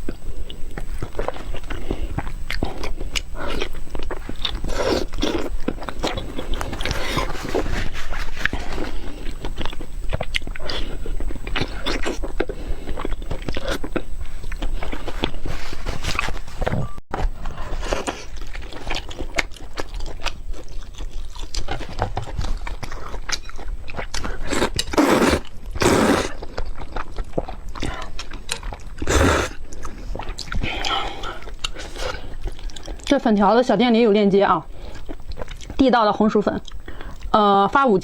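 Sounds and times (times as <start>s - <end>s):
person chewing food: 0.0s - 33.2s, 34.7s - 35.8s, 36.6s - 37.3s.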